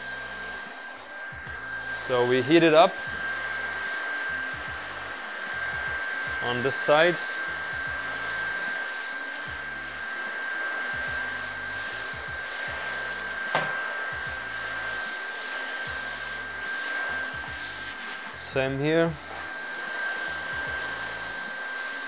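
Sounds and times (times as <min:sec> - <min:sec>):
heat gun blowing: 0:00.0 - 0:22.0.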